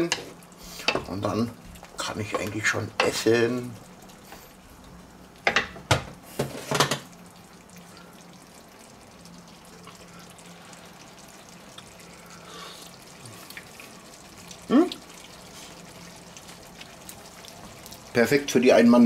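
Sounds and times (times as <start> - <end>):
faint liquid simmering: 0.0 - 19.0
low steady hum: 0.0 - 19.0.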